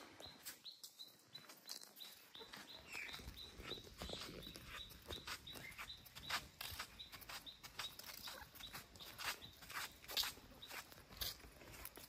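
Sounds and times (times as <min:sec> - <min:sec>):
small bird chirping: 0:00.1 - 0:12.0.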